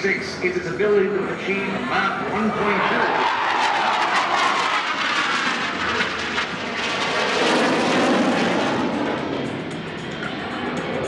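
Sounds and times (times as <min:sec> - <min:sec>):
jet engine roar overhead: 0:00.0 - 0:11.0.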